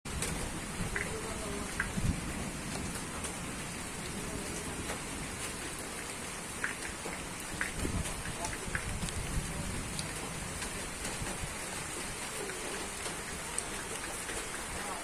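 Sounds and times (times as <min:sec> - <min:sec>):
steady rain falling: 0:00.1 - 0:15.0.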